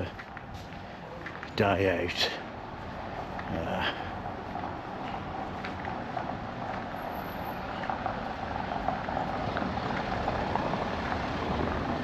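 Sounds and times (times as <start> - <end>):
street noise: 0.0 - 12.0
motor vehicle running: 2.3 - 12.0.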